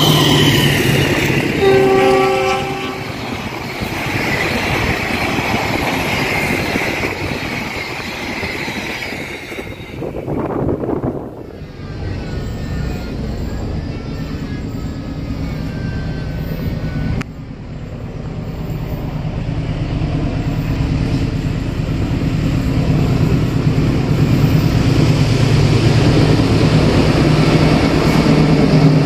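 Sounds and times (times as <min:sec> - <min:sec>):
diesel locomotive engine drone: 0:00.0 - 0:29.0.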